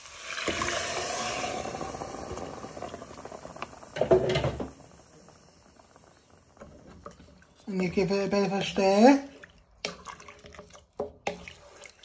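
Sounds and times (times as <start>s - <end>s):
liquid splashing and hissing in pan: 0.0s - 7.8s, 8.8s - 12.0s.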